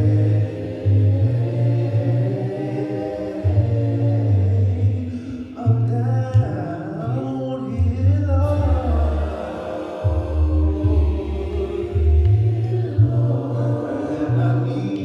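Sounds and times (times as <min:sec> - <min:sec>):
sustained low bass accompaniment: 0:00.0 - 0:07.2, 0:07.8 - 0:15.0
congregation singing a hymn: 0:00.0 - 0:07.4, 0:08.4 - 0:15.0.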